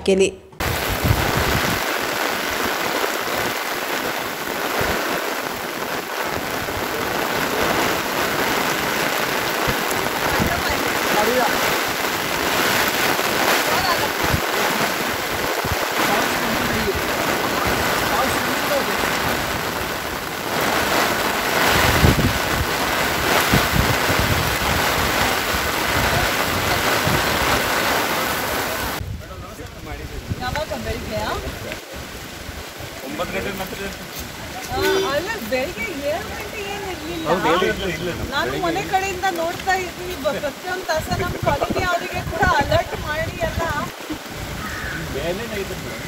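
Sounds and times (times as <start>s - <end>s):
wind buffeting microphone: 0.6s - 33.0s, 33.6s - 46.0s
flooded river rushing: 0.6s - 46.0s
heavy rain pouring: 0.6s - 46.0s.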